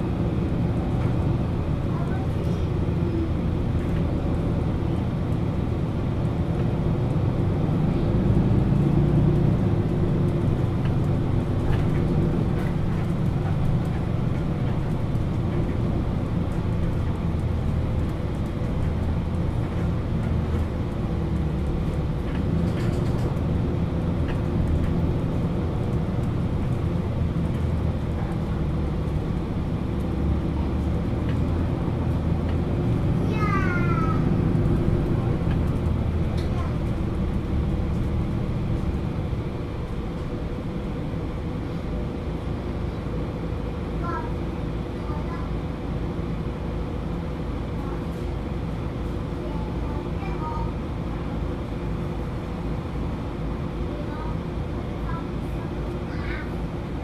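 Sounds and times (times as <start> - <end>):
bus diesel engine idling: 0.0 - 57.0.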